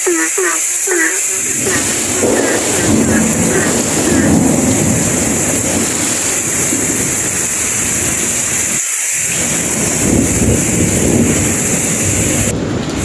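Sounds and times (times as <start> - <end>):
heavy rain pouring: 0.0 - 13.0
rolling thunder: 1.4 - 13.0.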